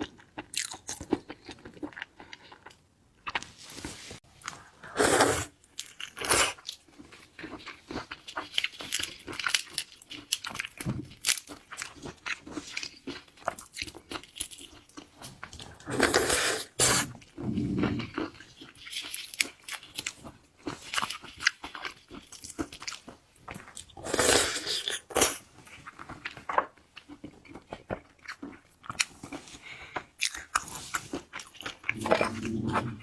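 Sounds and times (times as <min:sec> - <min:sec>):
chewing: 0:00.0 - 0:33.0.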